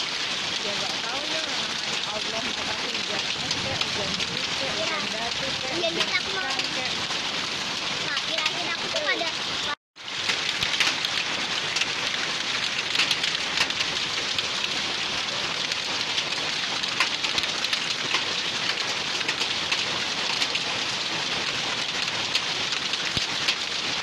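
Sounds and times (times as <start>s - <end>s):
hailstones striking: 0.0s - 24.0s
heavy rain: 0.0s - 24.0s.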